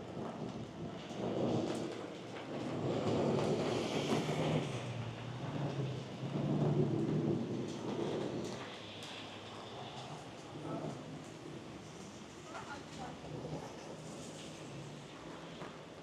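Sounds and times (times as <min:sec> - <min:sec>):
heavy rain: 0:00.0 - 0:16.0
storm wind: 0:00.0 - 0:16.0.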